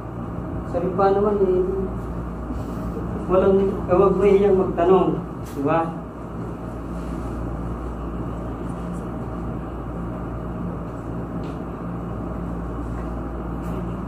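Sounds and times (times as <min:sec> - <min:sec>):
room hum and rushing noise: 0:00.0 - 0:14.0.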